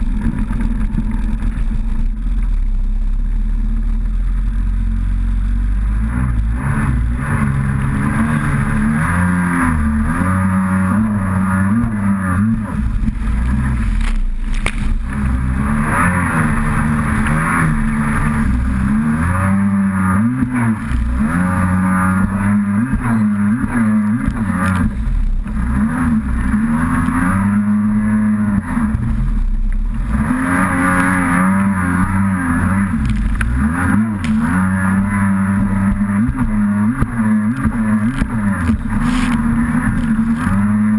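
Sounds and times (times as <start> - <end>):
jet ski engine running hard: 0.0 - 3.3, 3.9 - 30.1, 30.7 - 40.9.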